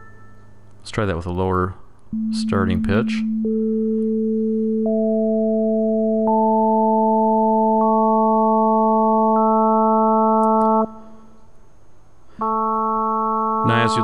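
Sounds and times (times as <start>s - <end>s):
sine tone chord: 0.0s - 0.8s, 2.1s - 11.3s, 12.4s - 14.0s.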